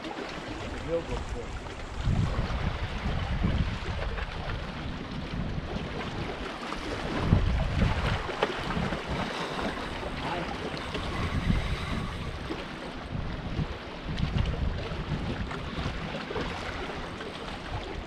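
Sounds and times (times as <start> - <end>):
water lapping against rocks: 0.0 - 18.0
wind buffeting microphone: 0.2 - 18.0.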